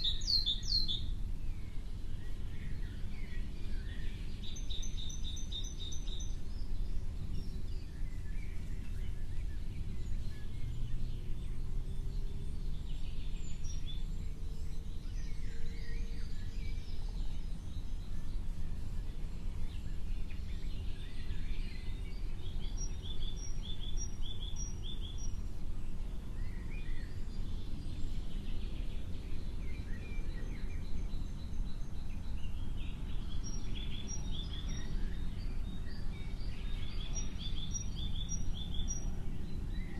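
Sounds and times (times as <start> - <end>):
birds calling and chirping: 0.0 - 39.9
low background rumble: 0.0 - 39.9.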